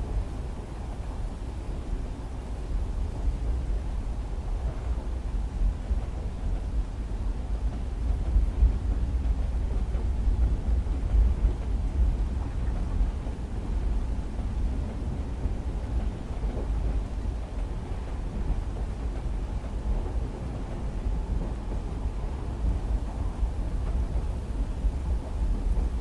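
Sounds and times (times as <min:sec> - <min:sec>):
deep train rumble: 0:00.0 - 0:26.0
rain on a window: 0:00.0 - 0:26.0.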